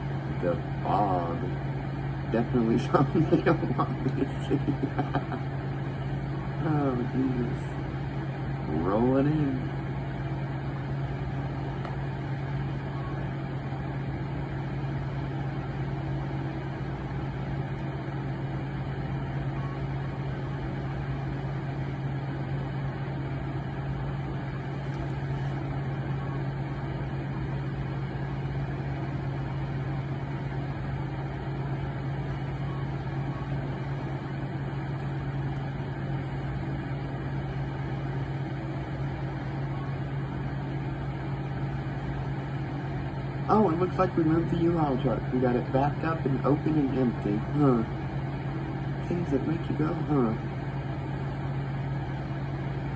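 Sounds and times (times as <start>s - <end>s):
low mechanical hum: 0.0s - 52.9s.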